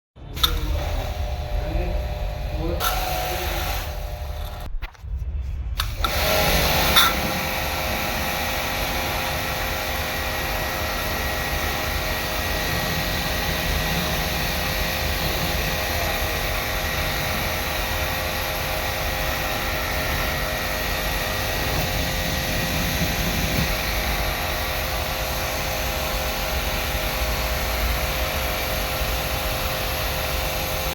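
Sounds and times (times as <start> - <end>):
air conditioner whirring: 0.2 - 4.7, 5.8 - 30.9
constant whine: 0.2 - 30.9.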